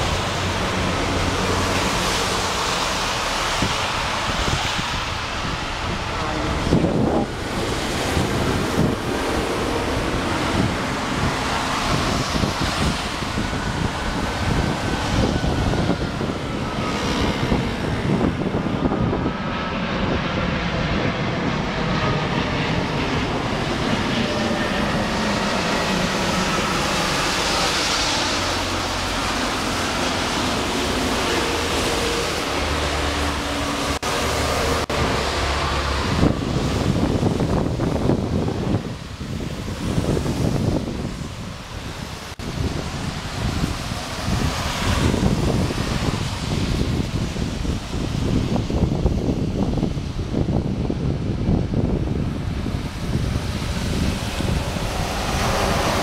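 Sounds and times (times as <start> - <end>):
jet engine roar: 0.0 - 56.0
wind buffeting microphone: 0.0 - 56.0.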